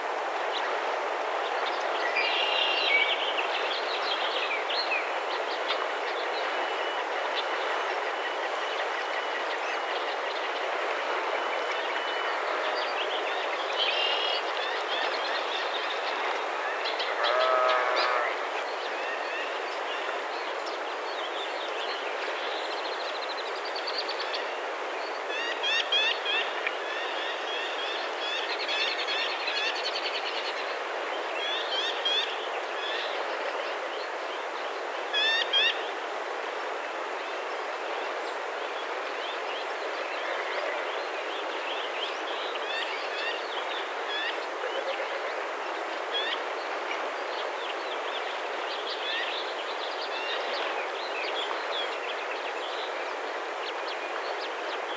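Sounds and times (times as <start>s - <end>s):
outdoor background noise: 0.0s - 54.9s.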